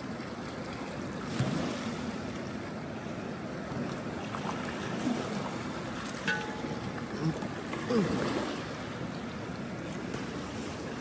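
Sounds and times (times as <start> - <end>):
rushing water: 0.0 - 11.0
wind: 0.0 - 11.0.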